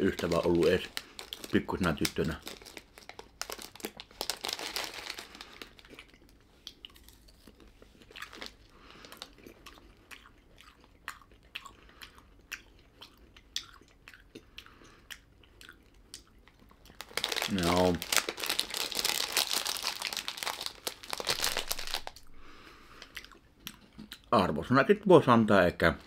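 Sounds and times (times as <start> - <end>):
person chewing crunchy snack: 0.9 - 1.6, 2.4 - 24.3.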